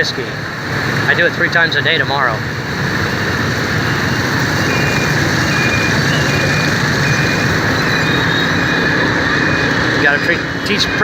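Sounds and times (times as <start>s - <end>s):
wind noise: 0.0s - 10.2s
motorbike engine: 0.0s - 11.0s
faint electronic beep: 1.0s - 11.0s.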